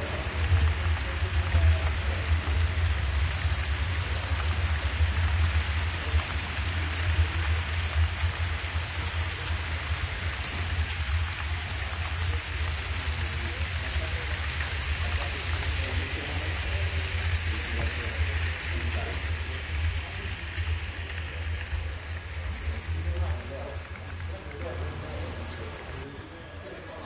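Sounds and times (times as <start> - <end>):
model train wheels on rails: 0.0 - 27.0.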